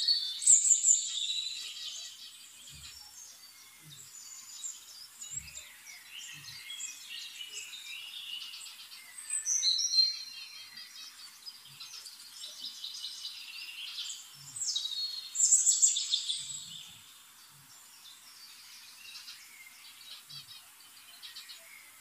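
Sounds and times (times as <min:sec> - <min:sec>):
birds chirping and singing: 0:00.0 - 0:22.0.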